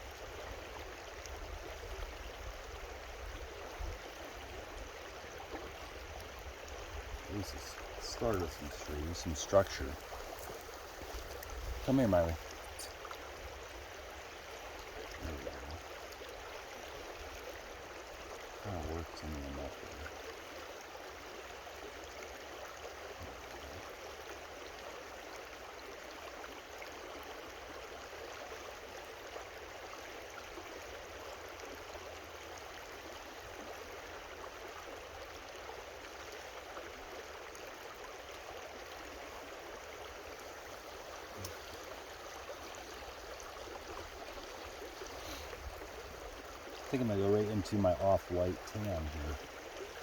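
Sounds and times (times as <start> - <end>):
creek water rushing: 0.0 - 50.0.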